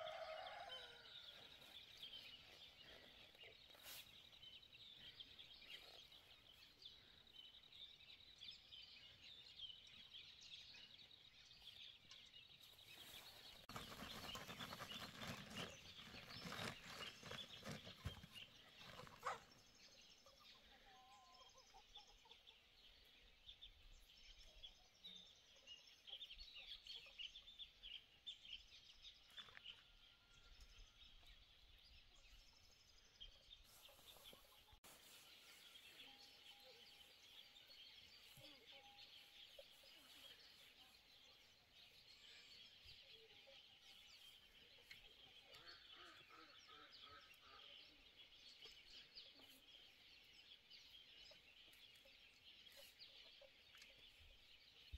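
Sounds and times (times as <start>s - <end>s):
chickens clucking and peeping: 0.0s - 10.3s, 11.0s - 28.4s, 29.9s - 54.9s.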